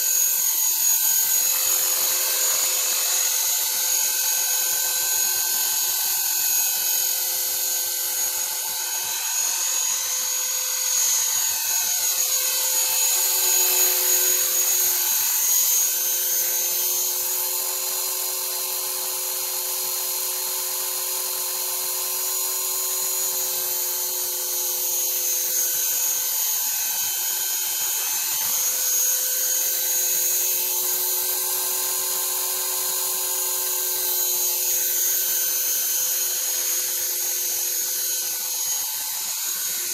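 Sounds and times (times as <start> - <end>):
rc helicopter rotor whine: 0.0 - 39.9.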